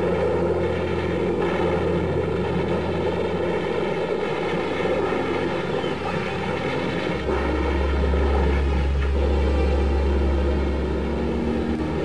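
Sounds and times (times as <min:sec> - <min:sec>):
jet engine noise: 0:00.0 - 0:12.0
low steady hum: 0:00.0 - 0:12.0.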